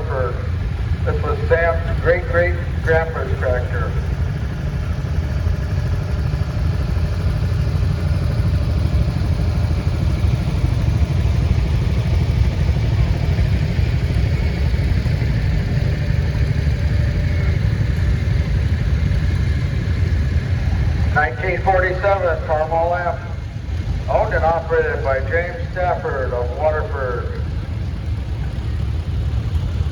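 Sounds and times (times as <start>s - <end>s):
tractor engine rumbling: 0.0s - 29.9s.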